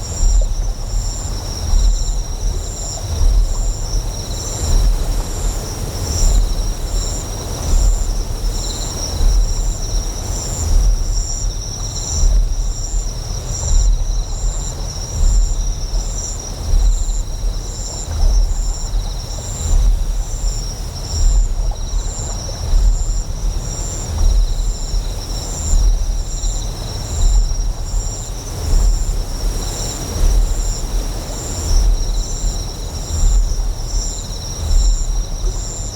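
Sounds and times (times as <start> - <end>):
deep generator hum: 0.0 - 35.9
hiss of flowing water: 0.0 - 35.9
insect chirping: 0.0 - 35.9.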